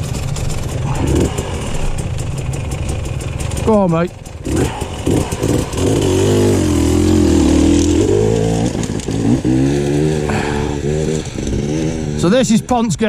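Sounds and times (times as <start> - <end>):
motorcycle engine under load: 0.0 - 12.8.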